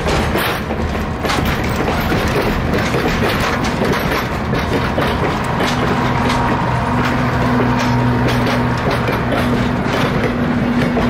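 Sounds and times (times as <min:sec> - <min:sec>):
train wheels rumbling on rails: 0:00.0 - 0:11.0
wheels clicking over rail joints: 0:00.0 - 0:11.0.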